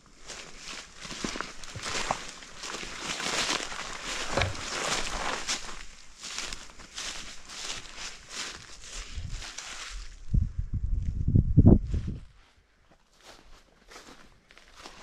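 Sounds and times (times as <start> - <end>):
footsteps on forest ground: 0.0 - 10.2, 12.4 - 15.0.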